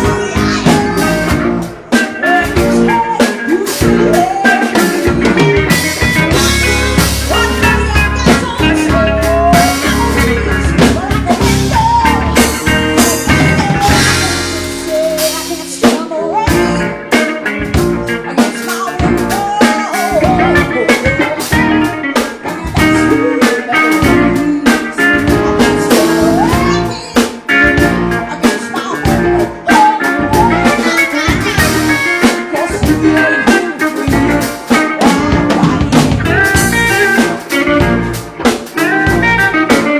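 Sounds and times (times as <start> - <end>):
blues band playing live: 0.0 - 39.9.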